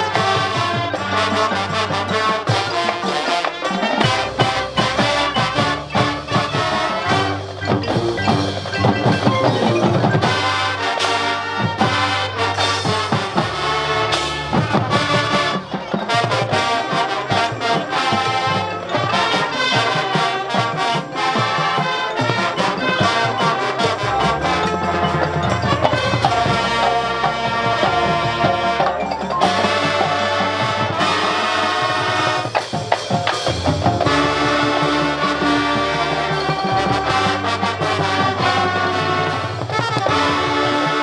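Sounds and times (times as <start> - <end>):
drumline steady beat: 0.0 - 41.0
marching band brass: 0.0 - 41.0.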